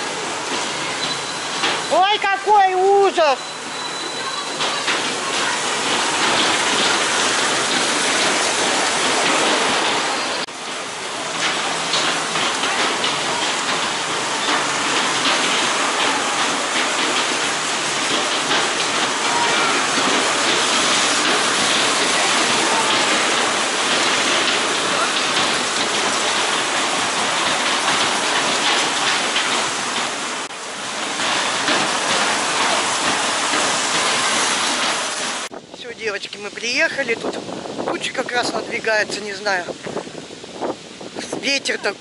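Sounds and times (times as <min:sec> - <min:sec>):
rain hiss: 0:00.0 - 0:42.0.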